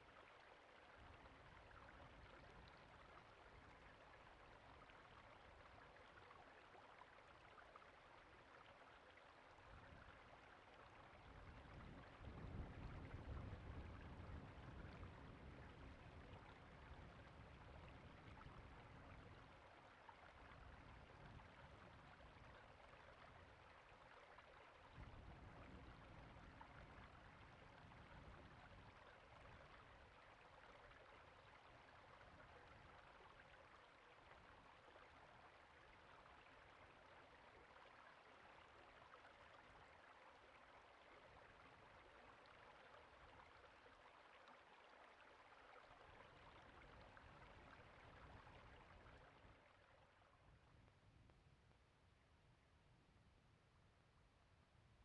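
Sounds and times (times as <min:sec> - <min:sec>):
faint flowing creek: 0:00.0 - 0:55.0.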